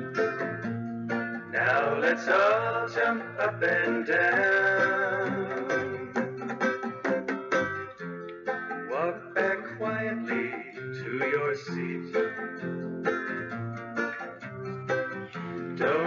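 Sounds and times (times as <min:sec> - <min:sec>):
plucked guitar: 0:00.0 - 0:16.0.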